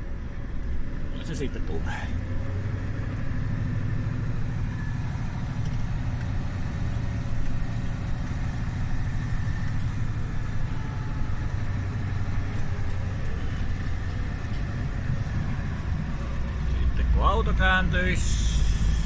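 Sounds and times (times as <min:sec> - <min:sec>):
truck diesel engine hum: 0:00.0 - 0:19.0.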